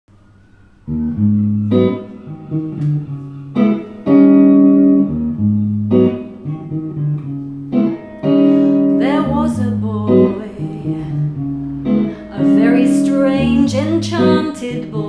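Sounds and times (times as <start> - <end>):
guitar plucked notes and chords: 0.9 - 15.0.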